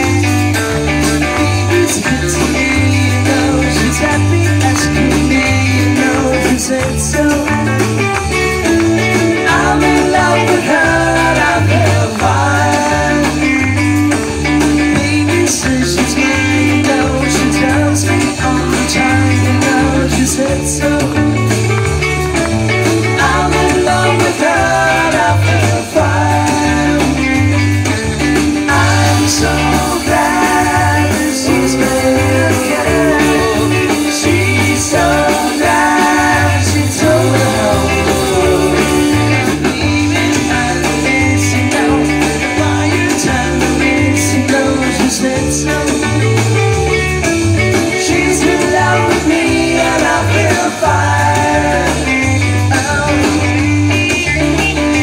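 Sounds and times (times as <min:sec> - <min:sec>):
lead vocal singing: 0:00.0 - 0:46.7, 0:47.7 - 0:55.0
bass guitar: 0:00.0 - 0:55.0
drums: 0:00.0 - 0:55.0
electric and acoustic guitars: 0:00.0 - 0:55.0.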